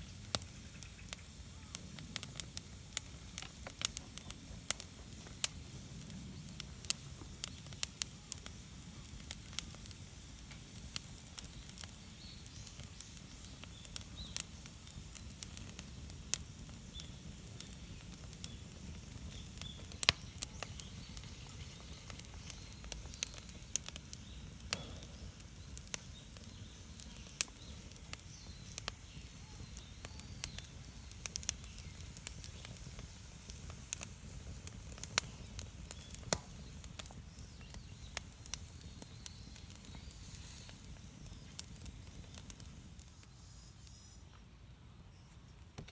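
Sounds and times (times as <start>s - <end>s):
campfire crackling and popping: 0.0s - 44.5s, 45.5s - 45.9s.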